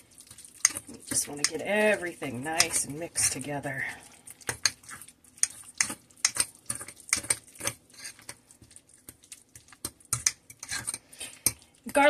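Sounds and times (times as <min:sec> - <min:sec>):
metal utensil scraping ceramic bowl: 0:00.5 - 0:08.4, 0:09.6 - 0:12.0.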